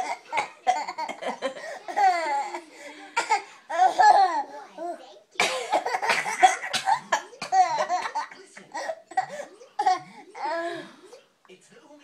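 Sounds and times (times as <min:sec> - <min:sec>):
coughing: 0:00.0 - 0:04.5, 0:05.4 - 0:10.9.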